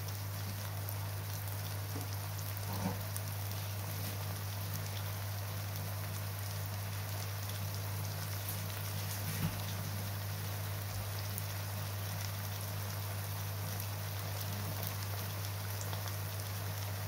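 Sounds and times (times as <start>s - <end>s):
liver and onions sizzling in oil: 0.0s - 17.0s.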